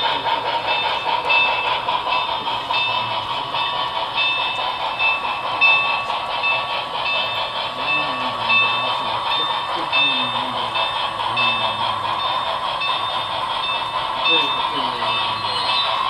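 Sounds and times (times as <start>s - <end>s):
model train whirring and rolling: 0.0s - 16.0s.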